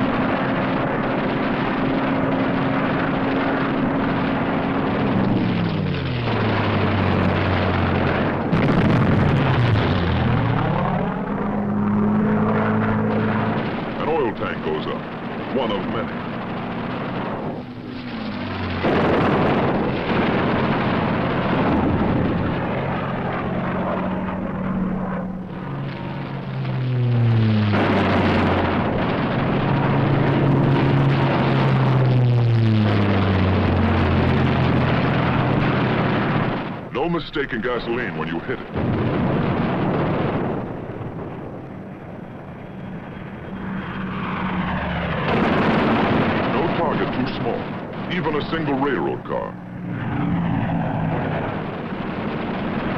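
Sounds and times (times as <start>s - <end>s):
loud dense roar: 0.0s - 52.9s
propeller plane engine droning: 0.0s - 52.9s.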